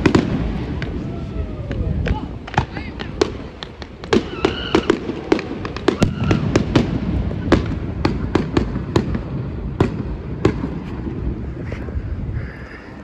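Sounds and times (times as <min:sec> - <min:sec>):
distant fireworks bangs: 0:00.0 - 0:11.9.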